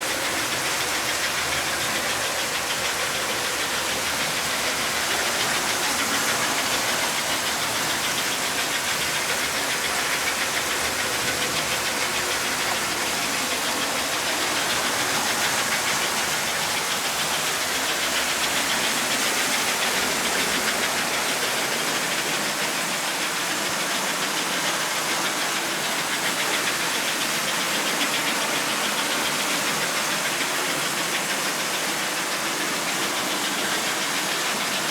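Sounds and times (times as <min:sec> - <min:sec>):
toy train motors and wheels on rails: 0:00.0 - 0:34.9.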